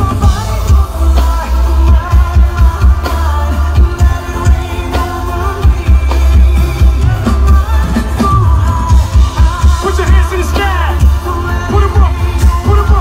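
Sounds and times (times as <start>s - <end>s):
heavy pulsing bass beat: 0.0s - 13.0s
person singing: 0.0s - 13.0s.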